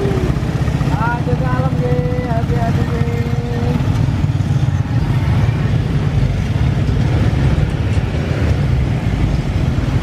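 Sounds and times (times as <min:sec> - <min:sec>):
motorcycles and scooters rumbling: 0:00.0 - 0:10.0.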